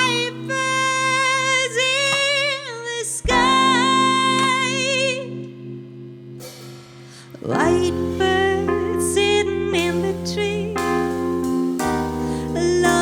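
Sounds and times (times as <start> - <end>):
woman singing wordless melody: 0.0 - 5.8, 7.2 - 13.0
keyboard chords: 0.0 - 13.0.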